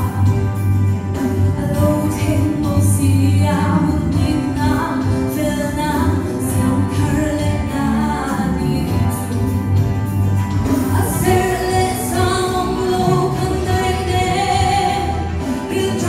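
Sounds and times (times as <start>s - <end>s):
woman singing into microphone: 0.0s - 9.8s, 10.6s - 16.0s
amplified instrumental accompaniment: 0.0s - 16.0s.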